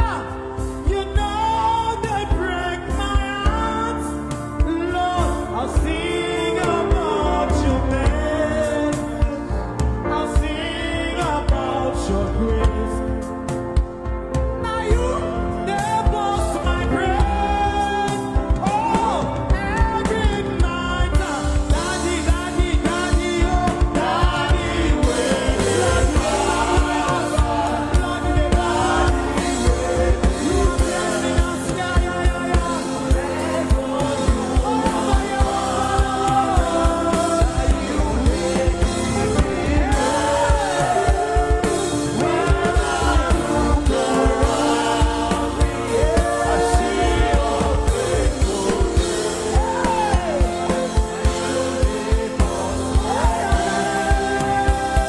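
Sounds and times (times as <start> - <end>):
band playing with drum beat: 0.0 - 55.0
person singing gospel song: 0.0 - 55.0.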